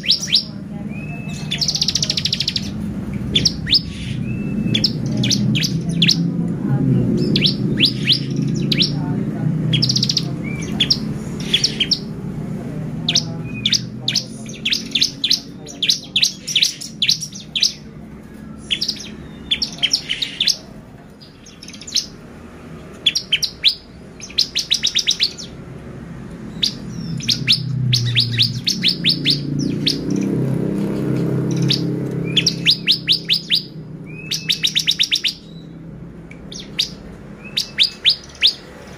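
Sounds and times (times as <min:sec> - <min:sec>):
bird chirping and trilling: 0:00.0 - 0:25.7, 0:26.4 - 0:38.9.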